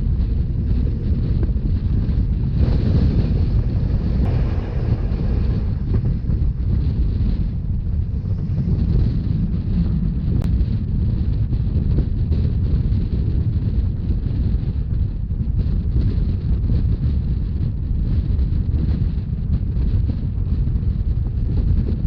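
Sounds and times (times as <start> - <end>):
train rumbling: 0.0 - 22.0
wind buffeting microphone: 0.0 - 22.0.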